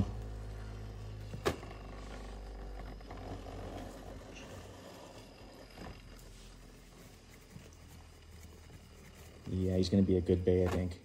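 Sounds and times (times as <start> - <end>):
spinning top humming: 0.0 - 10.4.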